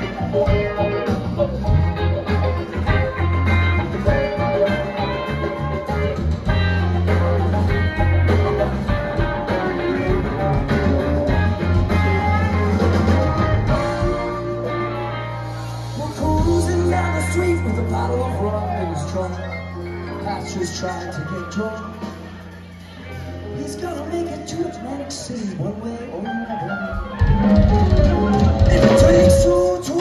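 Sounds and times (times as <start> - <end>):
bass guitar line: 0.0 - 24.4, 26.2 - 30.0
electric guitars: 0.0 - 30.0.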